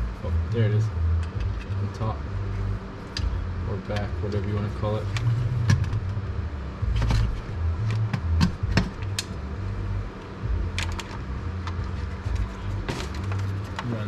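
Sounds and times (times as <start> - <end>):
cooling fans humming: 0.0 - 14.0.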